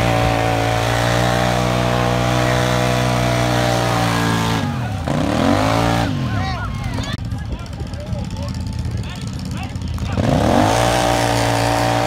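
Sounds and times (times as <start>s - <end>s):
atv engine at high revs: 0.0s - 12.0s.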